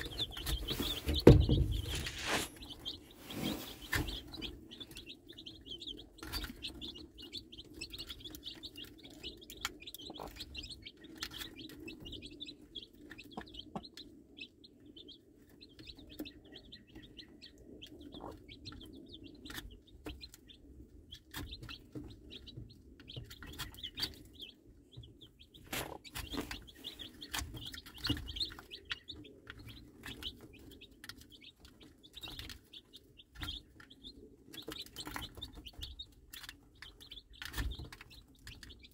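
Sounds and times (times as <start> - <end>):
hen clucking: 0.0 - 38.2
baby chicks peeping: 0.0 - 38.9.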